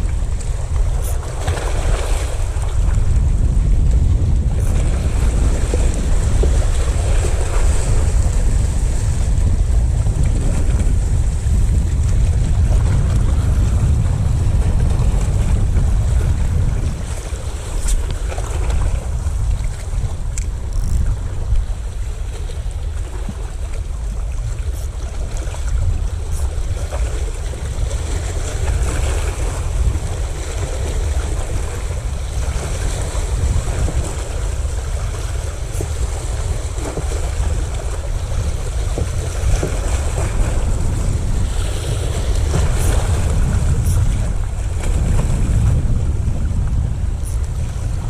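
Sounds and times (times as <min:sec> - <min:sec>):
sea waves: 0:00.0 - 0:48.0
wind buffeting microphone: 0:00.0 - 0:48.0.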